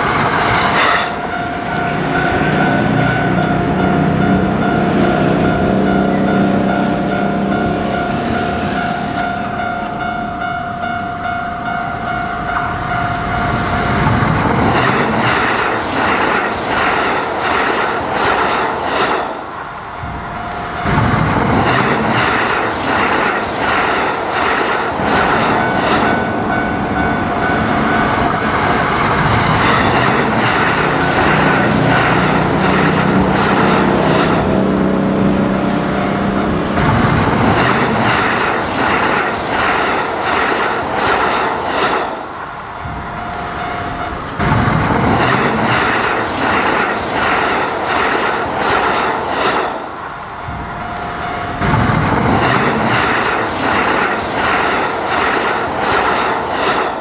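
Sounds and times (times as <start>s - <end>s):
level crossing warning bell: 0.0s - 17.2s, 19.5s - 41.4s, 42.2s - 46.9s, 50.1s - 54.1s
train wheels clacking over rail joints: 0.0s - 57.0s.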